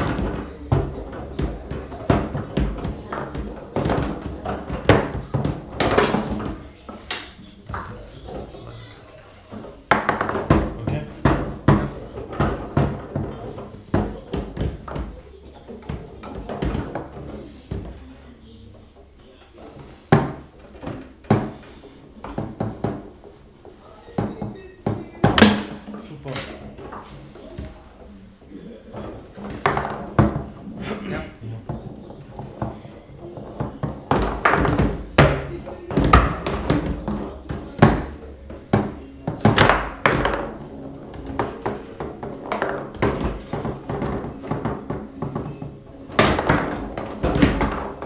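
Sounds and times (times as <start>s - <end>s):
foosball ball knocking: 0.0s - 8.5s, 9.5s - 18.2s, 18.8s - 28.2s, 28.8s - 30.8s, 31.6s - 48.0s
foosball rods clacking: 0.0s - 28.2s, 28.9s - 30.8s, 31.6s - 48.0s.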